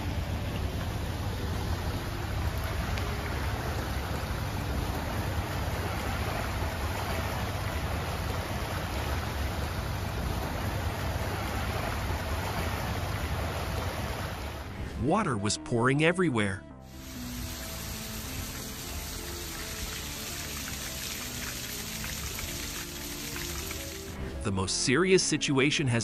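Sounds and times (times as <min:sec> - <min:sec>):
floodwater rushing: 0:00.0 - 0:14.8, 0:16.9 - 0:24.4.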